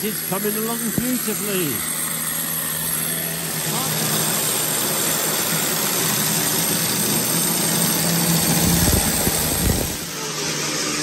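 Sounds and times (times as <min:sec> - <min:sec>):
grinder on steel mesh: 0:00.0 - 0:11.0.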